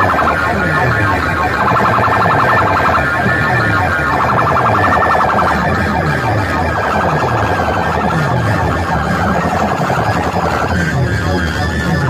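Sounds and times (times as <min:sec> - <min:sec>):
loud electronic music: 0:00.0 - 0:12.0
siren-like electronic wail: 0:00.0 - 0:12.0.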